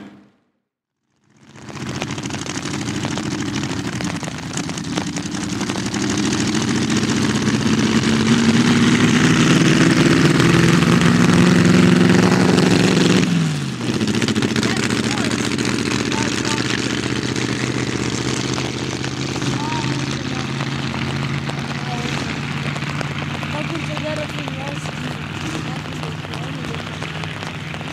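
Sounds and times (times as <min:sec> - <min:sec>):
car engine driving by: 0:00.0 - 0:00.4, 0:01.2 - 0:27.9.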